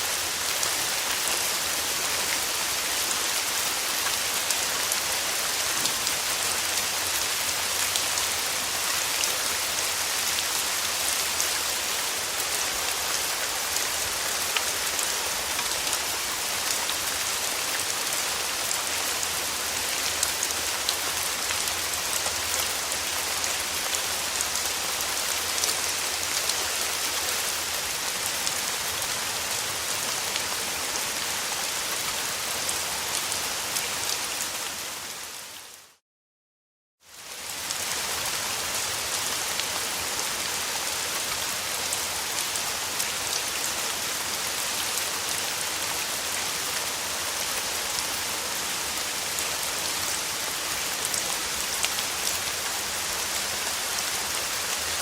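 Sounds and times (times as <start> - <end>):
rain pattering on a surface: 0.0 - 34.8, 37.1 - 55.0.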